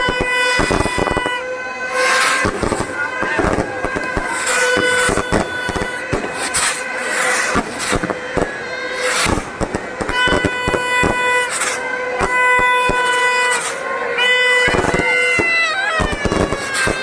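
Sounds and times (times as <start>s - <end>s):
firecrackers banging: 0.0s - 17.0s.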